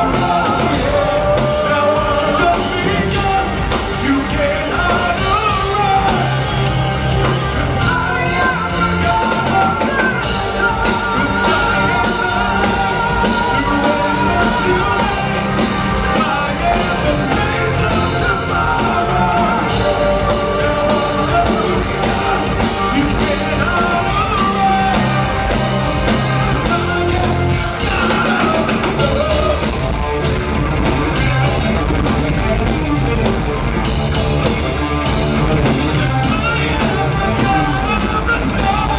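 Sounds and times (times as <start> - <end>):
man singing lead vocal: 0.0 - 30.0, 35.4 - 38.9
metal band playing: 0.0 - 38.9.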